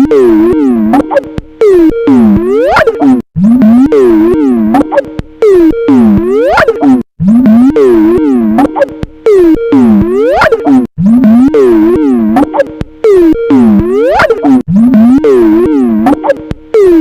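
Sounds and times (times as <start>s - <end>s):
distorted ringtone swooping in pitch: 0.0s - 17.0s.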